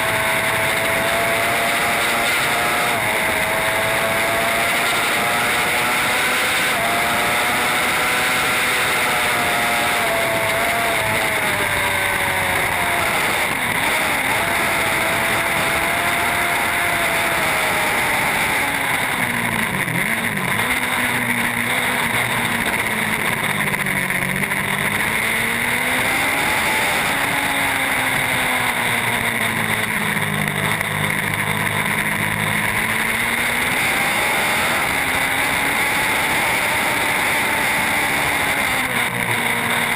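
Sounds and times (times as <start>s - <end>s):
superbike engine at high revs: 0.0s - 39.9s.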